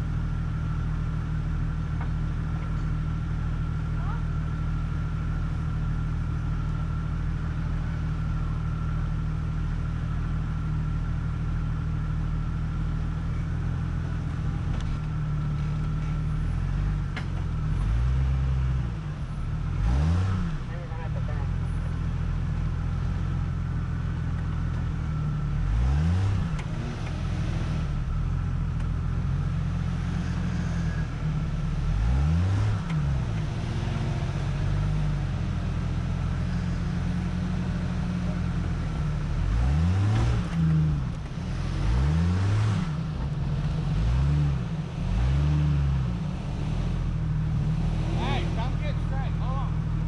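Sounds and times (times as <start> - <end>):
car engine revving: 3.6 - 50.0.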